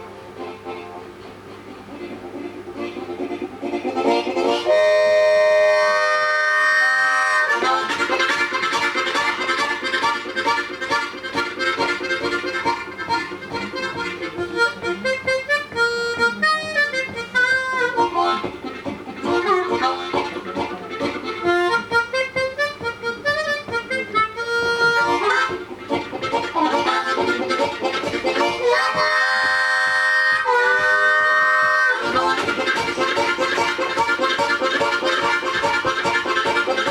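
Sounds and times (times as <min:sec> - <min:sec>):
harmonica train imitation: 0:00.0 - 0:36.9.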